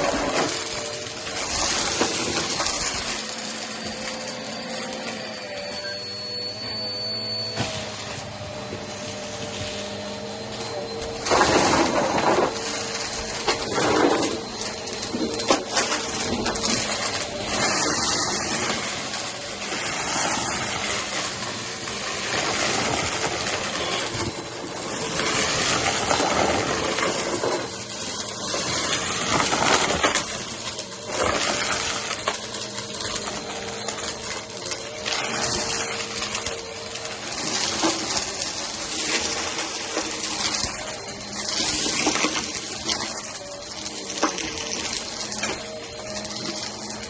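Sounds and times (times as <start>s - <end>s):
cereal crackling in vacuum: 0.0s - 47.0s
vacuum cleaner running: 0.0s - 47.0s.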